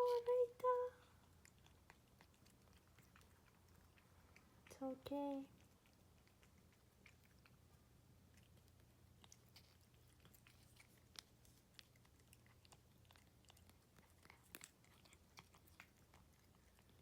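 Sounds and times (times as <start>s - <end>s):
cat chewing wet food: 1.0s - 17.0s.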